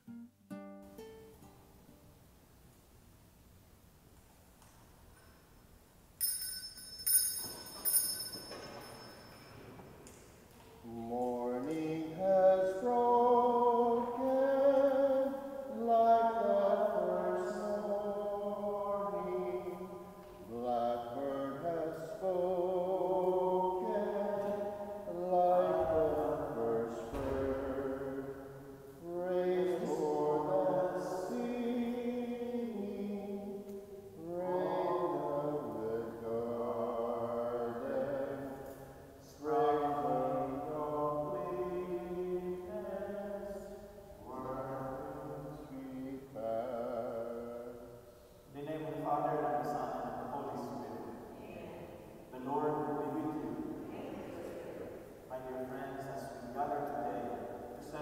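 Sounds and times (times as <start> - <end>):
person singing a slow hymn: 10.0 - 58.0
slow sung chant: 10.1 - 58.0.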